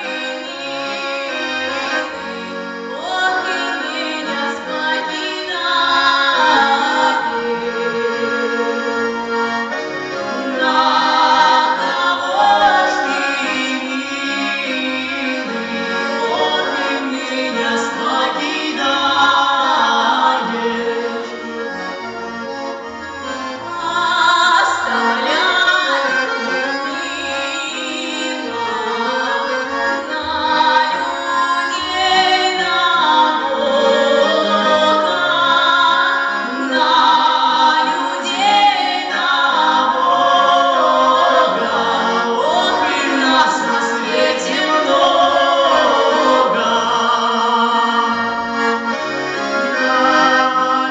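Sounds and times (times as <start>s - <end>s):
instrumental accompaniment: 0.0s - 50.9s.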